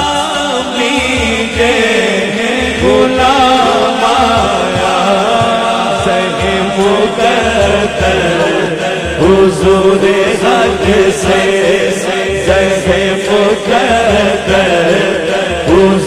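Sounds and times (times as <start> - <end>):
low pulsing beat: 0.0 - 16.0
man singing into a microphone: 0.0 - 16.0.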